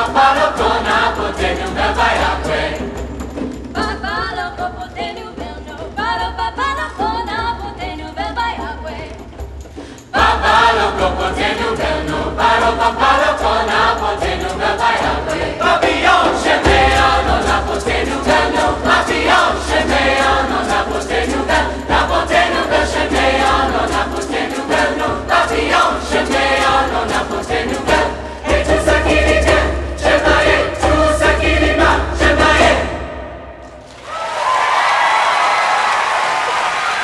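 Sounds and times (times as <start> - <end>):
choir singing chant in parts: 0.0 - 3.1, 10.1 - 37.0.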